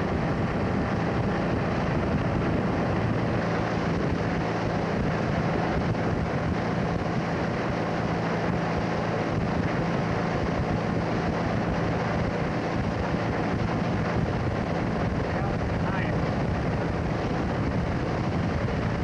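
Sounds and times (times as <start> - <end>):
boat motor running: 0.0 - 19.0
wind on microphone: 0.0 - 19.0.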